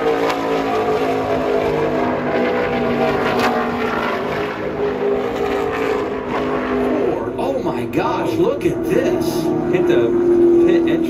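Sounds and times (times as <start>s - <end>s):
race car engine running past: 0.0s - 11.0s.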